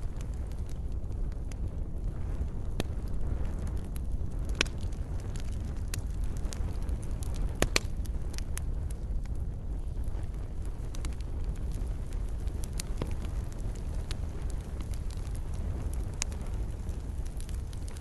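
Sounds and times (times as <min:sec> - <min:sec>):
fireplace fire crackling: 0:00.0 - 0:18.0.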